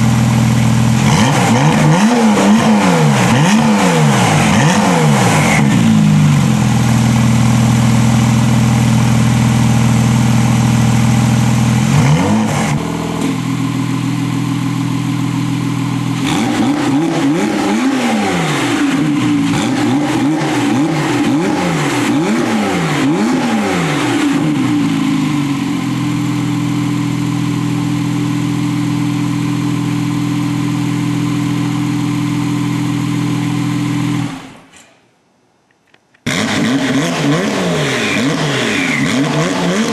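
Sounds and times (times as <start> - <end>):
car engine revving through exhaust: 0.0 - 29.1, 36.3 - 39.9.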